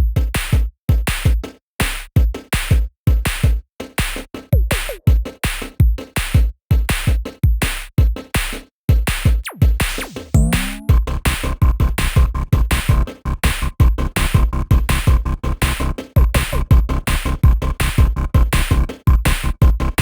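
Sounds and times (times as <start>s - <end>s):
electronic music with drum-machine beat: 0.0s - 20.0s.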